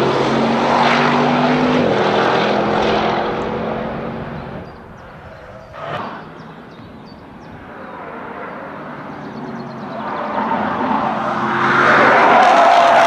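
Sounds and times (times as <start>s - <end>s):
car engine approaching: 0.0s - 13.0s.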